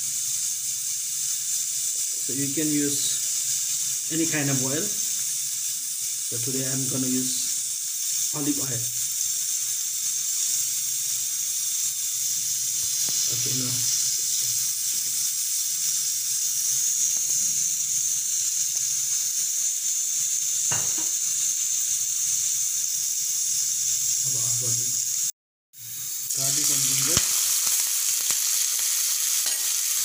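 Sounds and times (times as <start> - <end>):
oil sizzling in a wok: 0.0 - 30.0.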